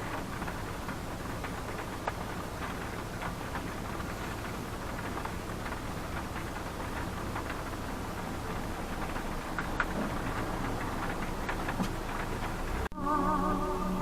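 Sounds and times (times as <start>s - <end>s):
heavy rain hitting a car: 0.0s - 12.9s
taps of raindrops: 0.0s - 12.9s
engine and road noise: 0.0s - 14.0s.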